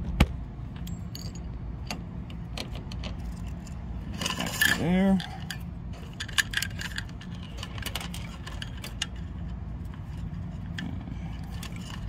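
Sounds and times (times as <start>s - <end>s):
steady low hum: 0.0s - 12.0s
hands clicking and rubbing wires: 2.2s - 12.0s.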